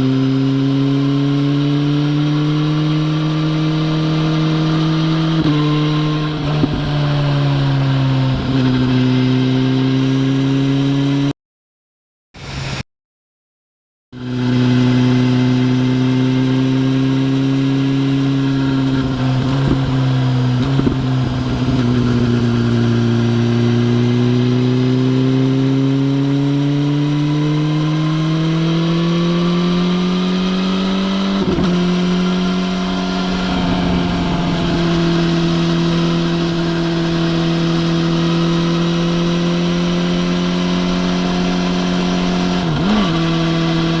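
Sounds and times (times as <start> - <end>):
motorcycle engine cruising: 0.0 - 11.3, 14.2 - 44.0.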